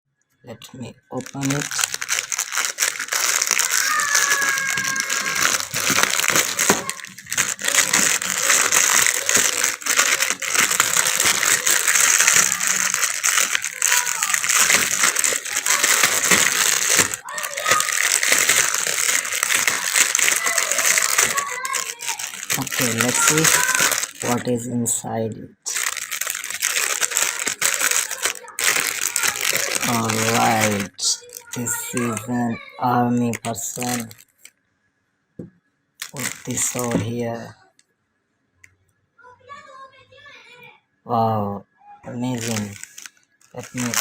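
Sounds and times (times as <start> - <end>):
packaging crinkling: 0.7 - 34.5, 36.0 - 37.5, 42.1 - 44.0.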